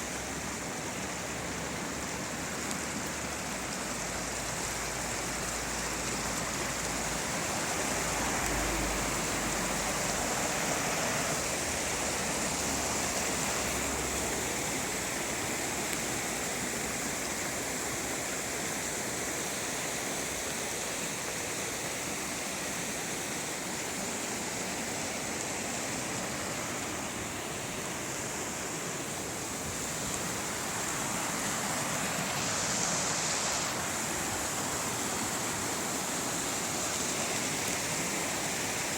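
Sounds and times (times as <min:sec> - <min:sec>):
rushing river water: 0:00.0 - 0:38.9.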